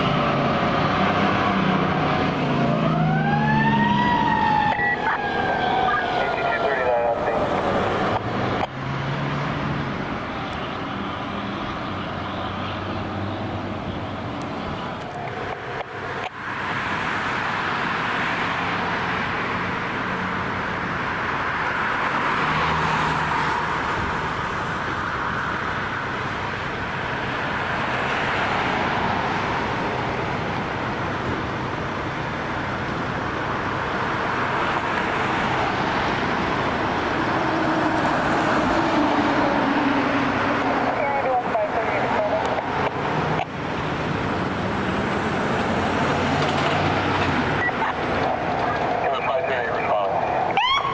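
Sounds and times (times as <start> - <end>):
vehicle engine and tyre noise: 0.0 - 50.9.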